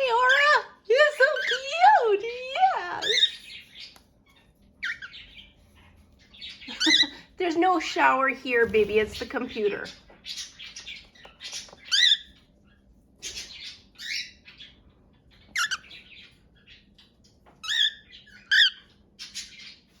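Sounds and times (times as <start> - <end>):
bird chirping and squawking: 0.0 - 20.0.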